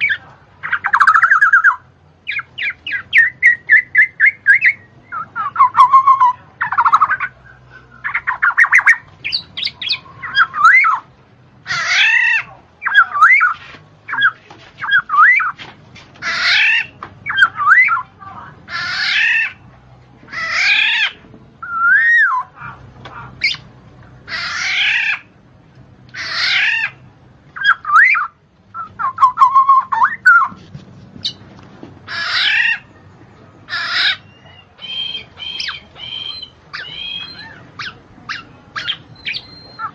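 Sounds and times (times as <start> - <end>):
bird squawking and whistling: 0.0 - 11.1, 11.7 - 15.6, 16.2 - 18.1, 18.7 - 19.6, 20.3 - 23.7, 24.3 - 25.3, 26.2 - 27.0, 27.6 - 30.6, 32.1 - 32.9, 33.7 - 39.9.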